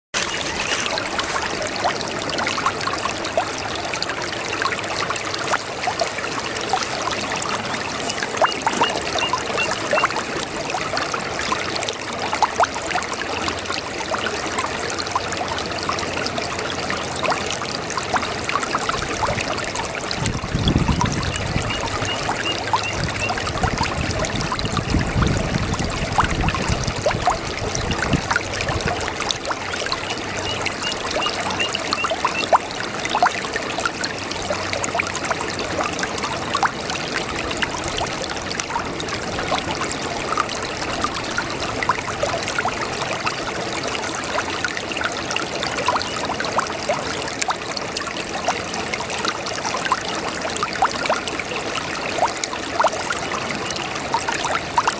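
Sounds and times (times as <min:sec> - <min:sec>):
brook babbling over stones: 0:00.1 - 0:54.9.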